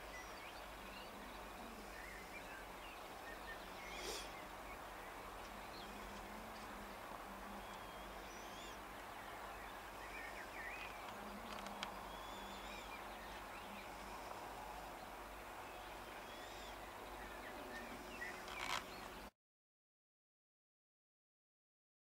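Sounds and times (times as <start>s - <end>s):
faint outdoor background noise: 0.0s - 19.3s
small birds chirping and singing: 0.0s - 19.3s.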